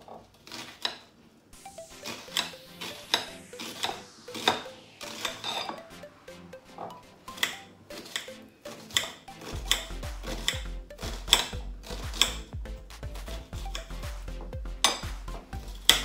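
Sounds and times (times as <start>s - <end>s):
background music: 1.6s - 16.0s.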